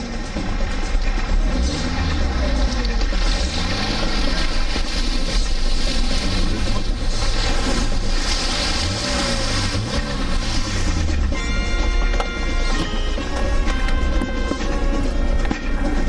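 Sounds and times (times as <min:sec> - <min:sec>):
vehicle engine revving: 0:00.0 - 0:16.0
water splashing against vehicle: 0:00.0 - 0:16.0.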